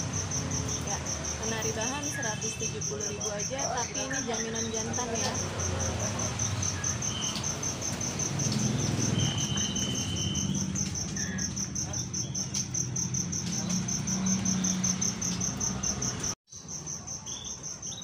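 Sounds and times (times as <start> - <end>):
insect chirping: 0.0 - 18.0.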